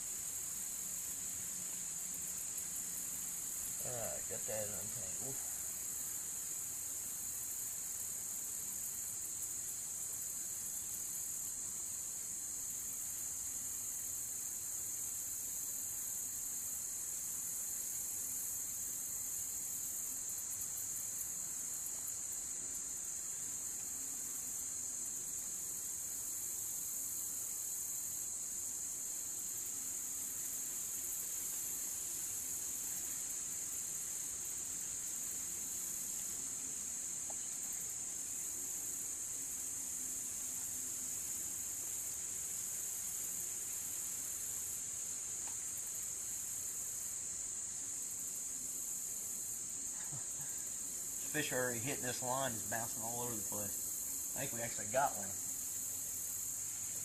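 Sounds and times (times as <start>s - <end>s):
crickets chirping: 0.0s - 57.0s
high-pitched insect chorus: 0.0s - 57.0s.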